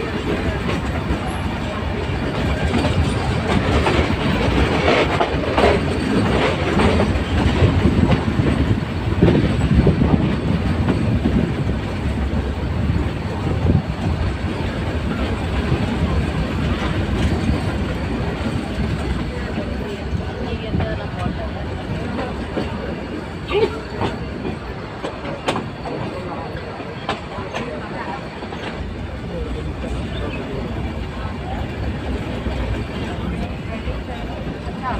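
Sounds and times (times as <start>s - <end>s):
train wheels clattering over rails: 0.0s - 34.9s.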